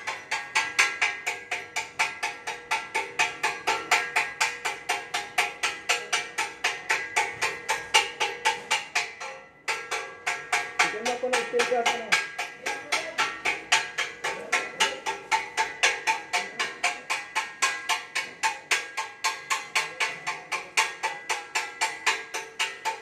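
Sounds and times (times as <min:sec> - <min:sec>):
chipping hammer striking metal: 0:00.0 - 0:23.0.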